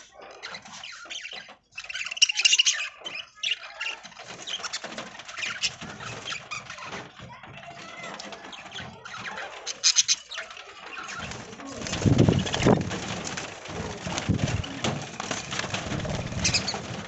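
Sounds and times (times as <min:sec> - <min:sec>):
budgies chattering and chirping: 0:00.0 - 0:17.0.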